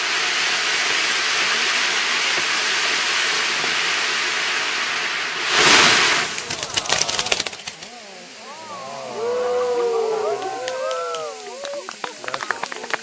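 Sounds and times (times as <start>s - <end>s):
firework crackles: 0.0s - 13.0s
firework fountains hissing: 0.0s - 13.0s.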